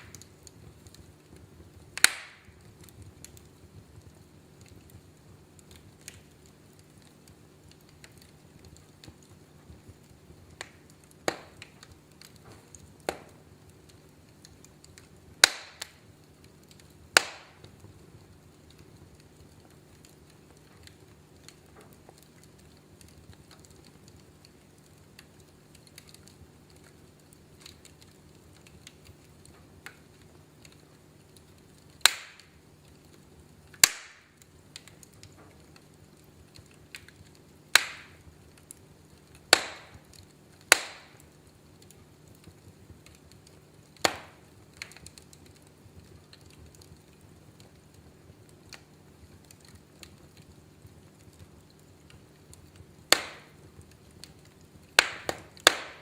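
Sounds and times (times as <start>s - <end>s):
loud sharp pops of fire: 0.0s - 56.0s
wood fire crackling: 0.0s - 56.0s.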